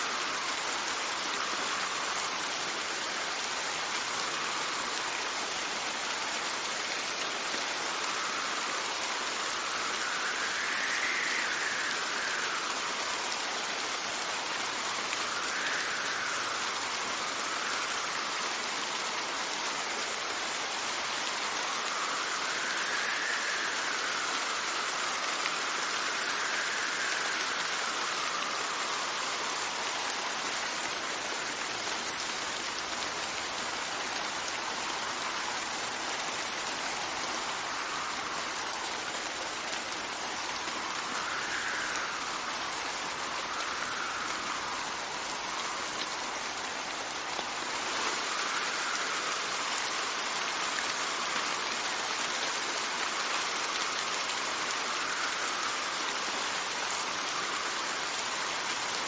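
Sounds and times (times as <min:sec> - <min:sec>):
rain hissing: 0:00.0 - 0:59.0
wind gusts: 0:00.0 - 0:59.0.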